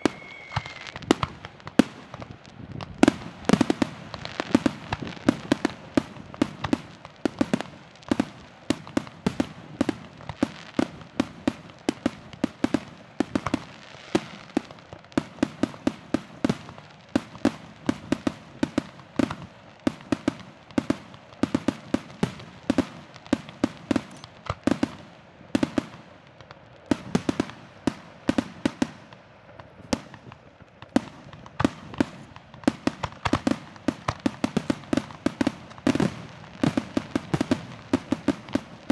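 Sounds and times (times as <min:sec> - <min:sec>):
fireworks bursting: 0:00.0 - 0:38.9.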